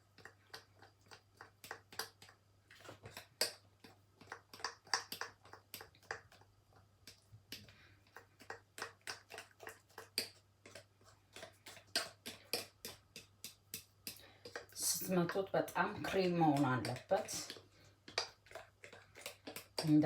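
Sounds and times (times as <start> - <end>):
utensil clicking against bowl: 0.0 - 20.0.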